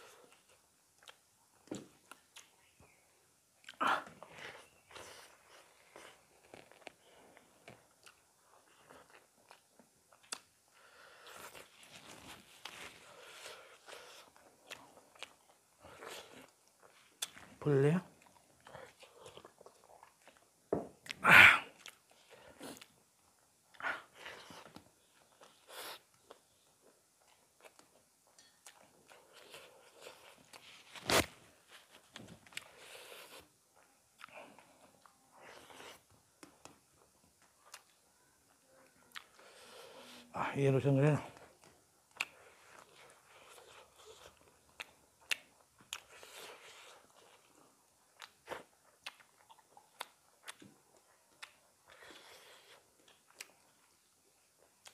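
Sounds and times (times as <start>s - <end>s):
people chewing food: 0.0s - 54.9s.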